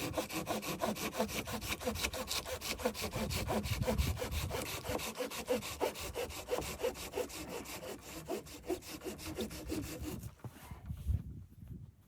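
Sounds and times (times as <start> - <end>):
hand saw cutting wood: 0.0 - 10.3.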